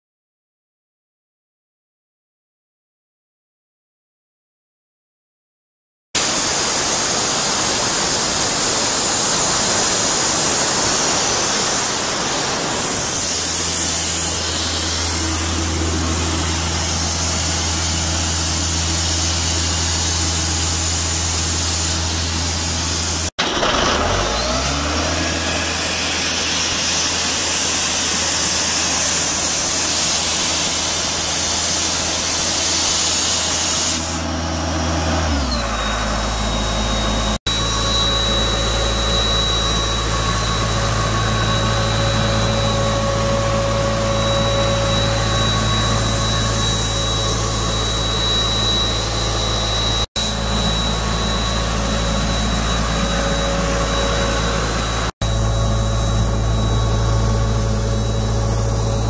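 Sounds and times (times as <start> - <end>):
diesel engine running: 8.0 - 59.0.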